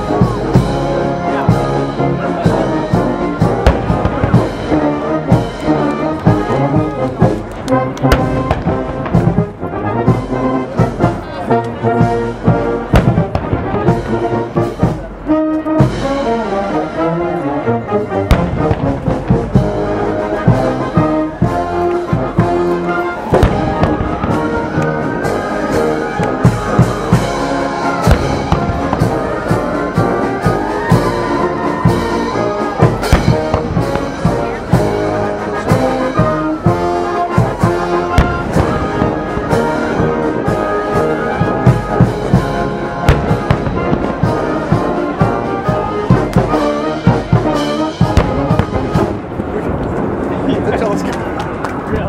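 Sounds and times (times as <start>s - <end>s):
brass band music: 0.0s - 52.0s.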